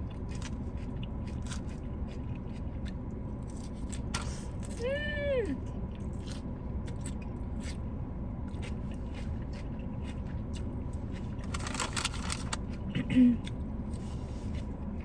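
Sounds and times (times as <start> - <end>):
chewing and crunching food: 0.0 - 4.9, 5.5 - 15.0
steady low hum: 0.0 - 15.0.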